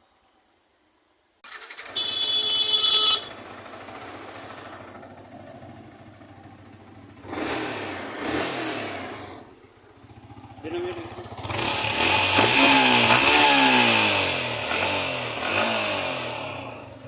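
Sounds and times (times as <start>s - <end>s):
motorcycle engine starting and idling: 1.4s - 17.0s
motorcycle engine revving: 1.5s - 17.0s.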